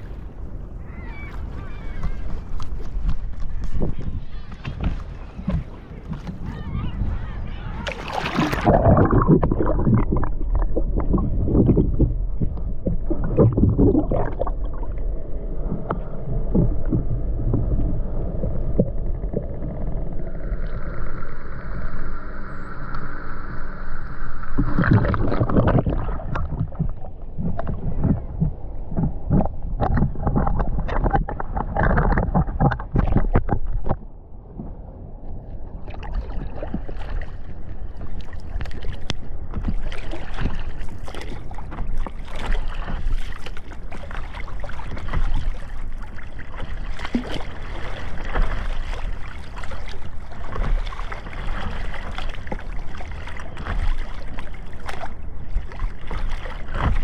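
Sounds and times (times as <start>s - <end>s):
wind buffeting microphone: 0.0s - 20.4s, 24.6s - 57.0s
water splashing and sloshing: 0.0s - 57.0s.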